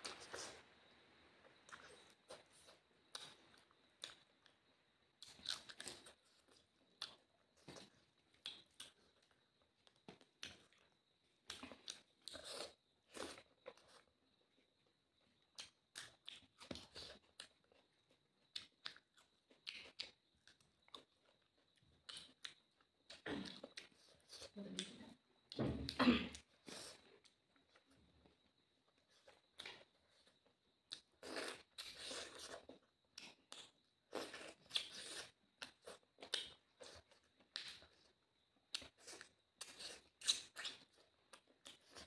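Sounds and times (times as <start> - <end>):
crunching and chewing food: 0.0 - 42.0.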